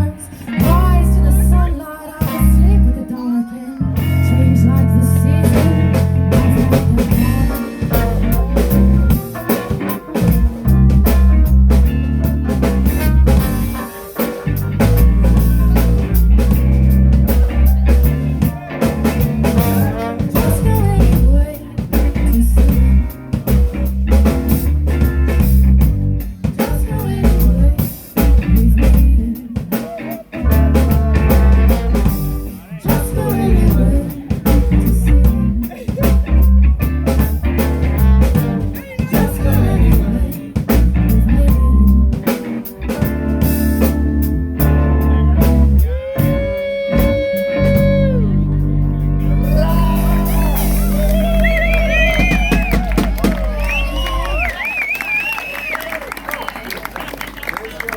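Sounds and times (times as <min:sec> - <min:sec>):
drum kit: 0:00.0 - 0:03.0, 0:03.9 - 0:55.7
deep bass notes: 0:00.0 - 0:03.1, 0:03.8 - 0:29.5, 0:30.3 - 0:54.6
guitar: 0:00.0 - 0:55.8.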